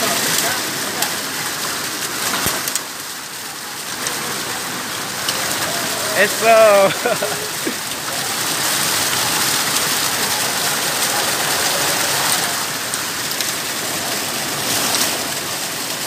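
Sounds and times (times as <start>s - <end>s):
stream cascading over rocks: 0.0s - 16.0s.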